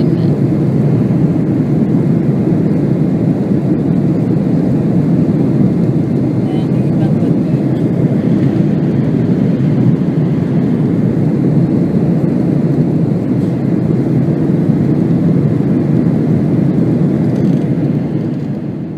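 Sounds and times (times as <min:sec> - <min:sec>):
jet engines rumbling: 0:00.0 - 0:18.9.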